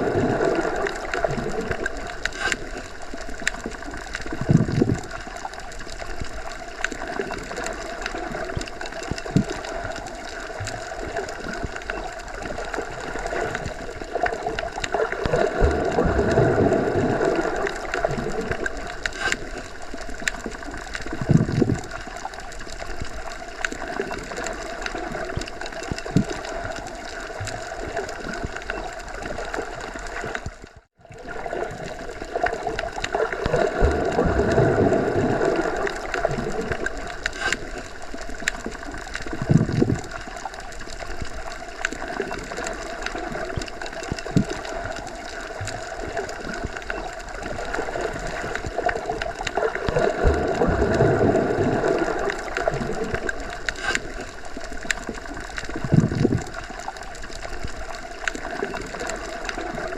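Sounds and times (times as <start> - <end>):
underwater rushing water: 0.0 - 59.9.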